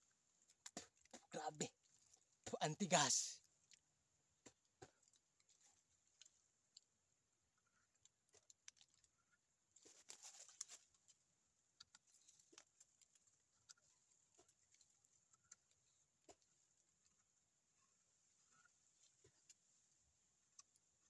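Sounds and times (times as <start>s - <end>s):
teeth gnawing bark: 3.4s - 21.0s.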